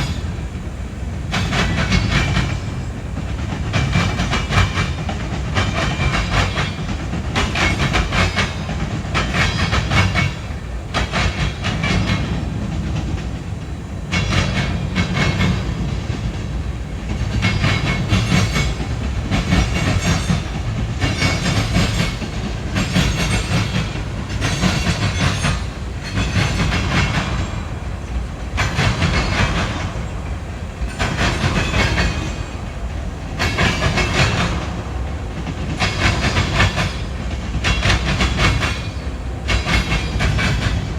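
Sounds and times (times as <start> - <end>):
freight train rumble: 0.0 - 40.9
wheels clacking over rail joints: 0.0 - 40.9.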